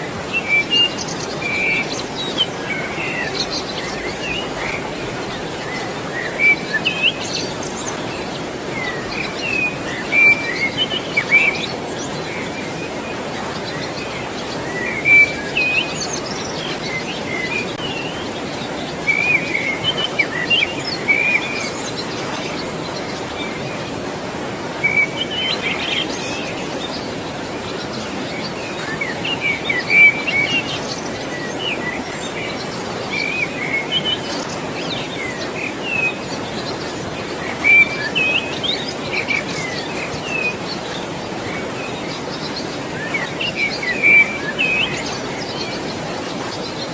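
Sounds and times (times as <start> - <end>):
flowing water: 0.0 - 46.9
birds chirping and calling: 0.3 - 46.9.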